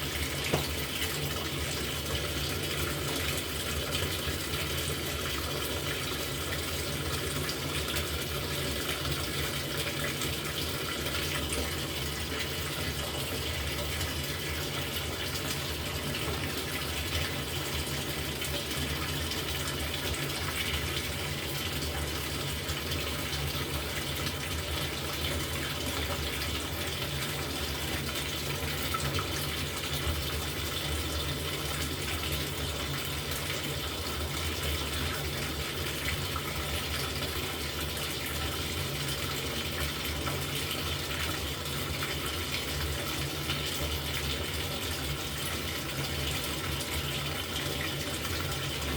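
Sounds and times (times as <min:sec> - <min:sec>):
water running into washing machine: 0:00.0 - 0:48.9.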